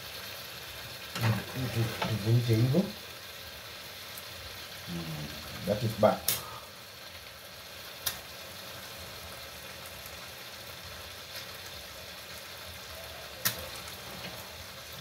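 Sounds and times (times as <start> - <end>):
fish frying in a pan: 0.0 - 15.0.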